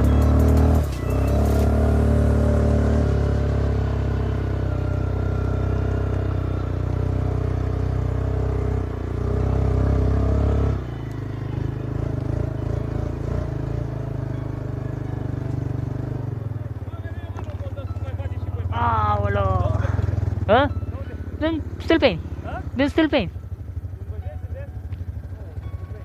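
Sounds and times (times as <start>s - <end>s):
quad bike engine revving: 0.0s - 24.2s.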